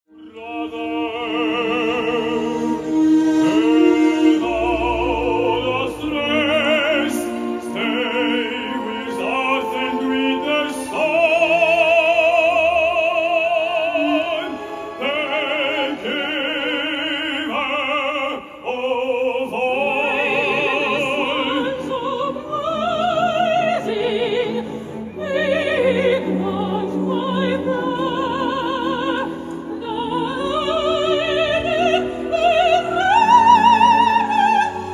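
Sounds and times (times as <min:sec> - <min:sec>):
orchestra: 0:00.1 - 0:34.9
operatic singers with vibrato: 0:00.2 - 0:34.9.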